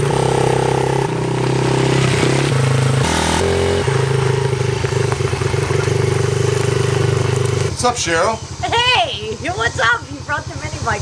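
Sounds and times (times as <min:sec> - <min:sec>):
small dirt bike engine running: 0:00.0 - 0:11.0.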